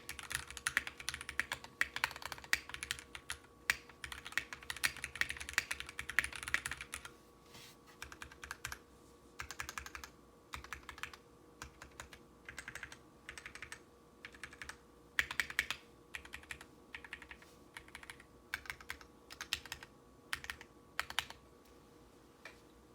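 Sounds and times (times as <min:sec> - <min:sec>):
typing on mechanical keyboard: 0:00.0 - 0:07.1, 0:08.0 - 0:08.8, 0:09.4 - 0:21.4
faint steady hum: 0:00.0 - 0:22.9.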